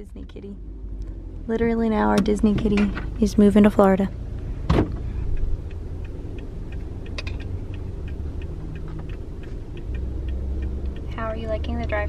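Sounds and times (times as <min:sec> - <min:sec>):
car engine rumble: 0:00.0 - 0:12.0
light ticking: 0:00.9 - 0:12.0.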